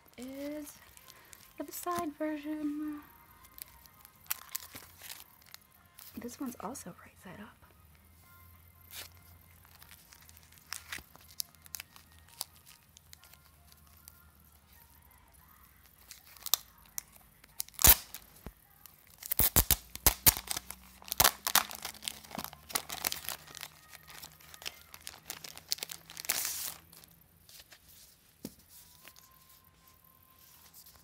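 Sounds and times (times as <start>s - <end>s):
plastic wrapping crackling: 0.0s - 6.5s, 8.9s - 15.0s, 15.8s - 31.0s.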